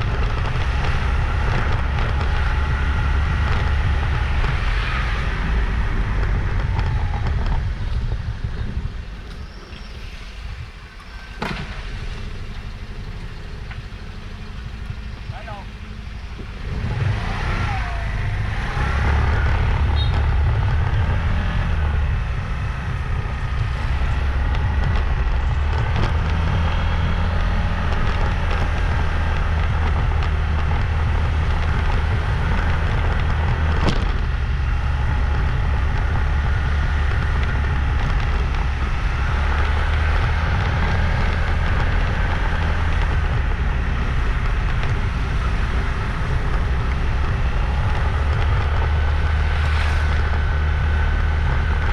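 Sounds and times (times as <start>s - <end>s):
motorbike engine running: 0.0s - 51.9s
wind rumbling on microphone: 0.0s - 51.9s.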